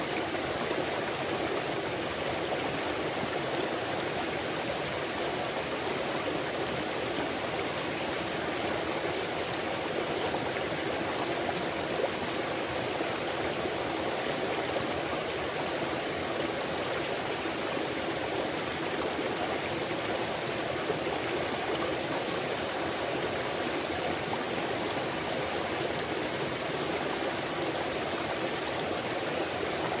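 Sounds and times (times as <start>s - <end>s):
stream water flowing: 0.0s - 30.0s.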